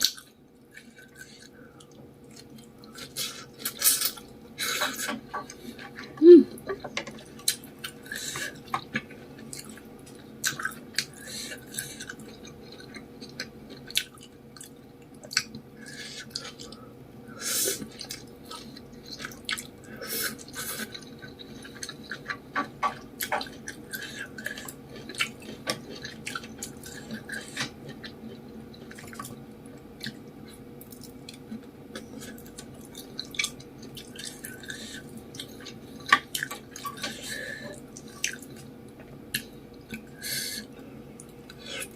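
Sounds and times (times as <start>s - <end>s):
wet chewing and smacking: 0.0s - 16.8s, 17.8s - 40.1s.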